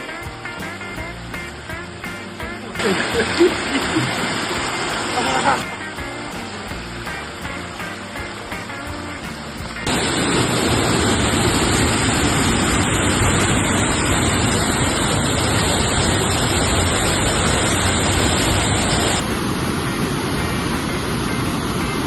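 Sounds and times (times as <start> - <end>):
river rushing over rocks: 1.5 - 22.0.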